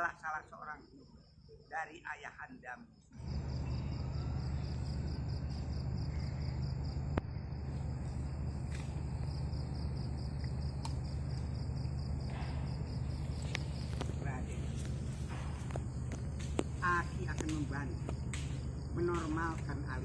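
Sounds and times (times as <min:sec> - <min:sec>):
crickets chirping: 0:00.0 - 0:20.0
loud low hum: 0:03.2 - 0:20.0.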